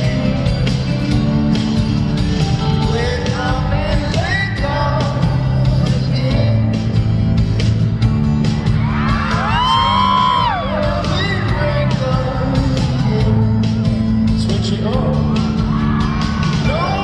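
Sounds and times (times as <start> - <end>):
male lead vocal: 0.0 - 1.8, 2.4 - 7.4, 9.4 - 15.9, 16.5 - 17.0
live pop band music: 0.0 - 17.0.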